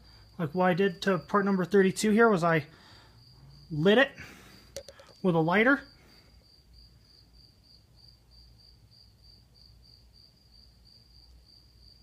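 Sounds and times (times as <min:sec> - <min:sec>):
faint cricket chirping: 0:00.0 - 0:12.0.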